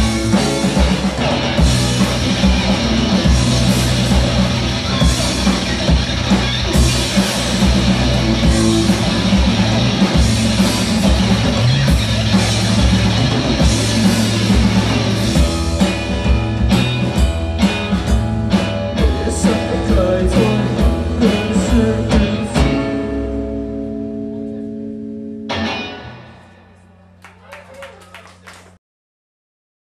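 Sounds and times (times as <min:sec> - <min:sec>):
rock band playing live: 0:00.0 - 0:27.4.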